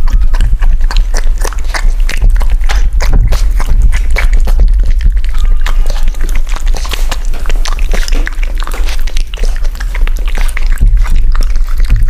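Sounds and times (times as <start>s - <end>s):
puppy lapping food: 0.0s - 12.0s
steady low hum: 0.0s - 12.0s.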